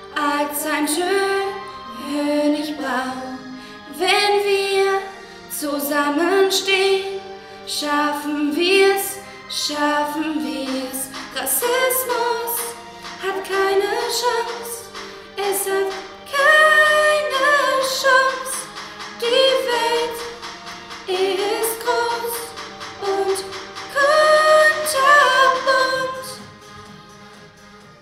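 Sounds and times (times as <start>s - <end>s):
women singing: 0.0s - 26.6s.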